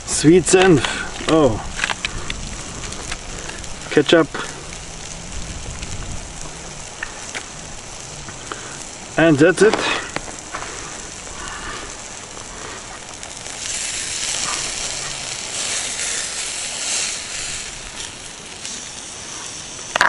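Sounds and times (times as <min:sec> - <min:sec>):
campfire crackling: 0:00.0 - 0:20.0
meat frying on hot stone: 0:00.0 - 0:20.0.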